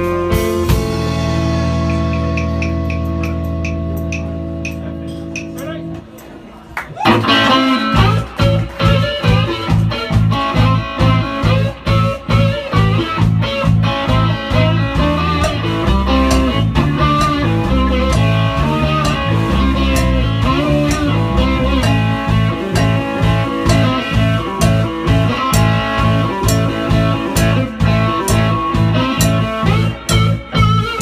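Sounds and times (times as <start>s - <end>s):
live blues band: 0.0s - 31.0s.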